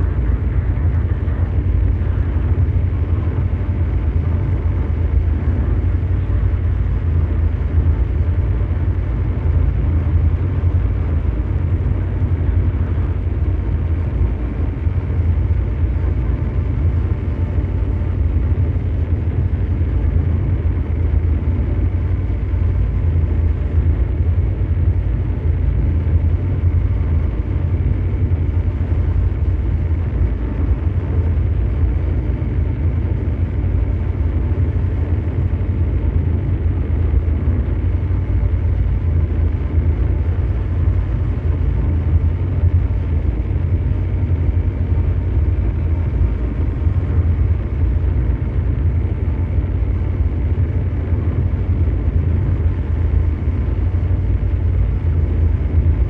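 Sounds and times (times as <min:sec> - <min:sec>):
brown noise: 0:00.0 - 0:56.0
deep mechanical hum: 0:00.0 - 0:56.0.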